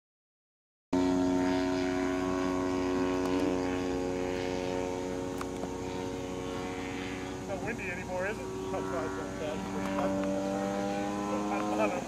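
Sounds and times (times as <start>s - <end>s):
model airplane engine and propeller: 1.0s - 12.0s.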